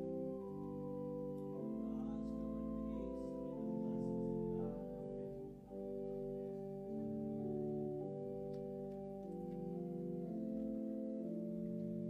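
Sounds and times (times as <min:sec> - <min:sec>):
organ playing slow chords: 0:00.0 - 0:12.0.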